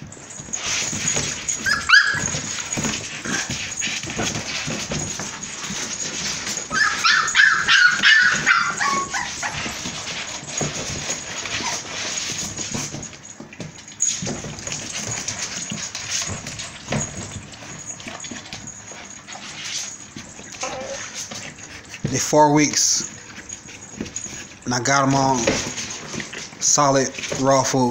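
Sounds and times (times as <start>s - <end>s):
puppies scuffling and chewing: 0.0s - 27.9s
puppies whining and yipping: 0.1s - 22.1s, 22.8s - 24.7s.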